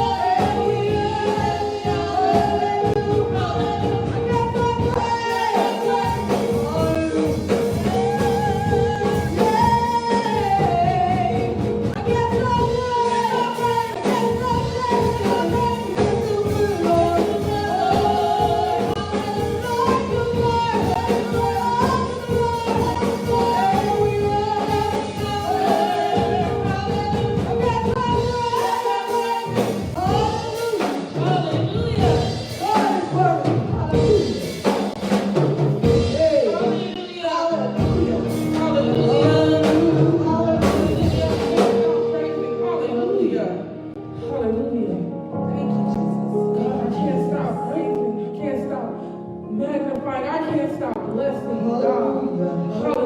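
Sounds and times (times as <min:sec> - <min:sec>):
person singing: 0:00.0 - 0:34.7, 0:35.9 - 0:44.4.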